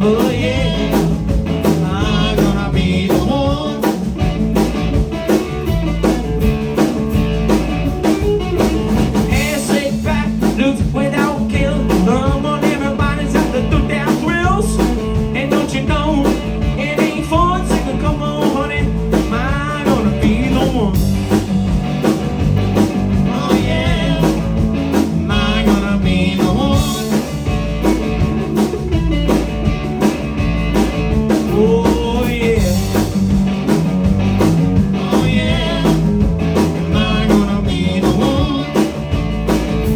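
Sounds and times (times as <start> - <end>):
blues rock band playing: 0.0 - 39.9
electric guitar lead lines: 0.0 - 39.9.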